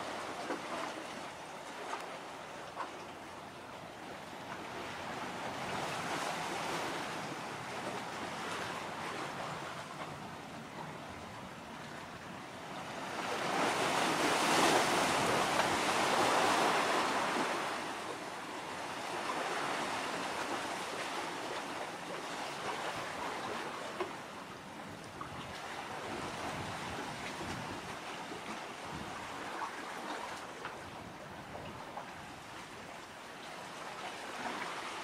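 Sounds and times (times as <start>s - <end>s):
sea waves washing in: 0.0s - 35.0s.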